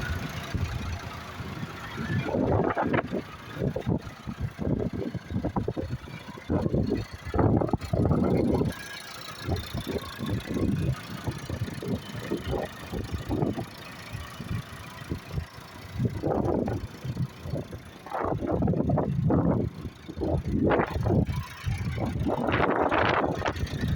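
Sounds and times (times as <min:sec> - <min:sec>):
tractor diesel engine under load: 0:00.0 - 0:23.9.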